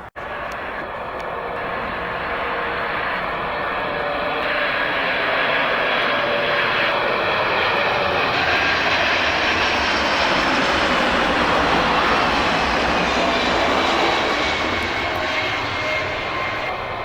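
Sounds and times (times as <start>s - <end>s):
jet engines rushing noise: 0.0s - 17.0s.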